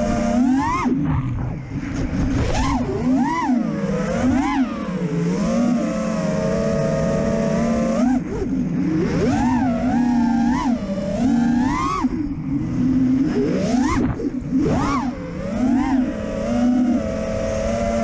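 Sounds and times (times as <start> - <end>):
drone motors and props whining: 0.0 - 18.0.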